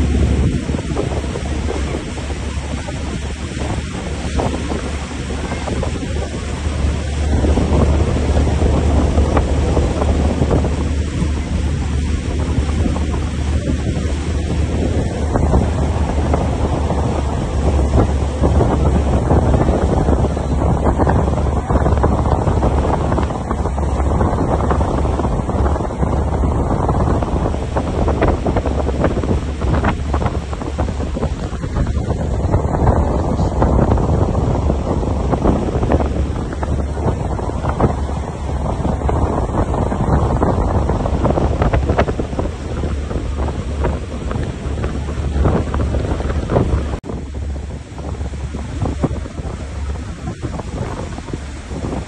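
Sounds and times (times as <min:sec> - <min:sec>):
boat engine rumble: 0:00.0 - 0:52.0
water rushing in boat wake: 0:00.0 - 0:52.0
wind buffeting microphone: 0:00.0 - 0:52.0.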